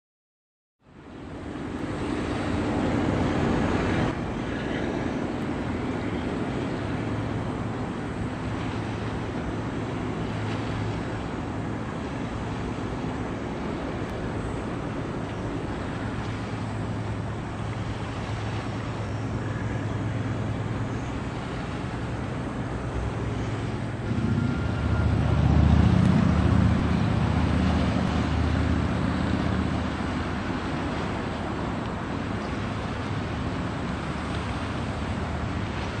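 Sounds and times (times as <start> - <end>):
ship engine drone: 0.8 - 36.0
water: 0.8 - 36.0
wind: 0.8 - 36.0.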